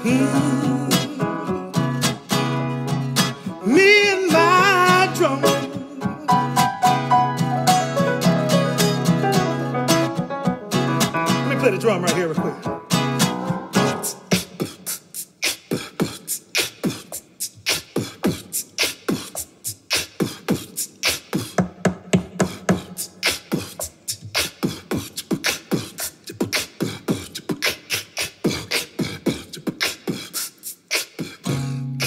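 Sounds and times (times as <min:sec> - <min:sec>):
vocal beatboxing: 0:00.0 - 0:02.5, 0:03.1 - 0:10.0, 0:13.2 - 0:32.0.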